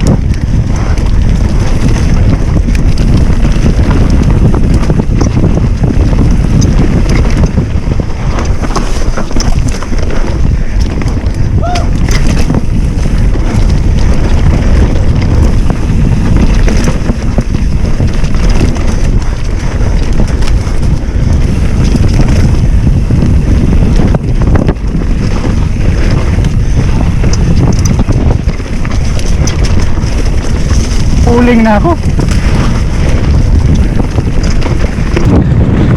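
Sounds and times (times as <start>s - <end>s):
wind rushing over microphone: 0.0s - 35.9s.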